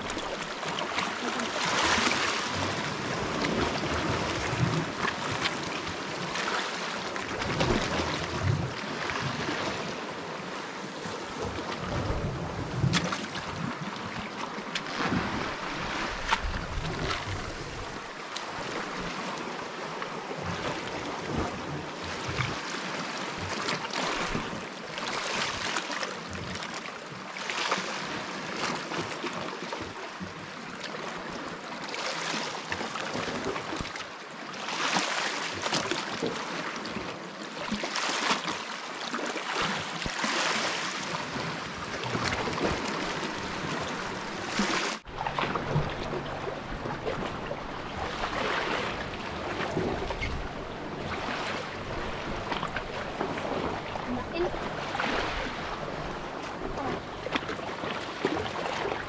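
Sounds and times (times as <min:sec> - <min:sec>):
waves washing against rocks: 0:00.0 - 0:26.6, 0:34.6 - 0:59.0.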